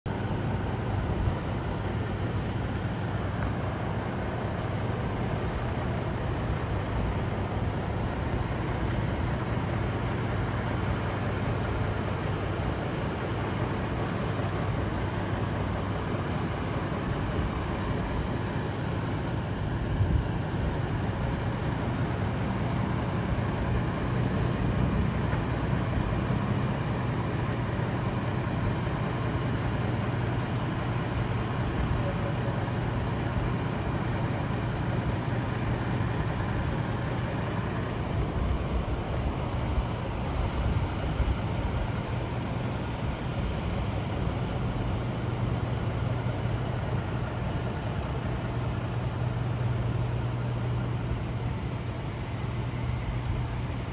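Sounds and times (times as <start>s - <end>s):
outdoor noise: 0.0s - 53.9s
truck engines idling: 0.1s - 53.9s.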